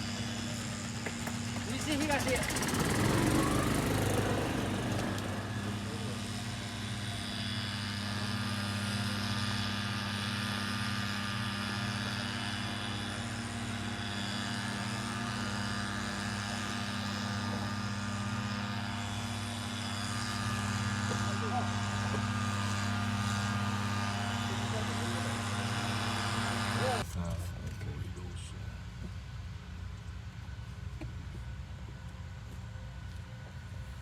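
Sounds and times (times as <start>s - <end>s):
motor hum: 0.0s - 34.0s.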